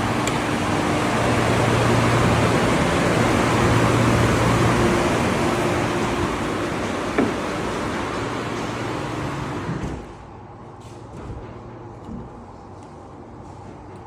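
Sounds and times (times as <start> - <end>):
refrigeration unit humming: 0.0 - 14.0.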